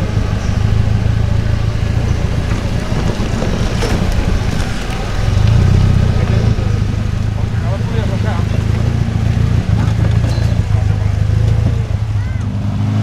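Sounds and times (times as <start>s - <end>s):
buggy engine at low revs: 0.0s - 13.0s.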